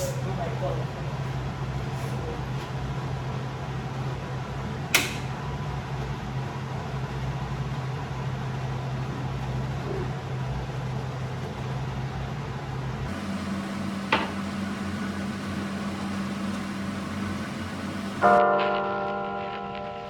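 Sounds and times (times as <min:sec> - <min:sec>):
extractor fan humming: 0:00.0 - 0:18.4.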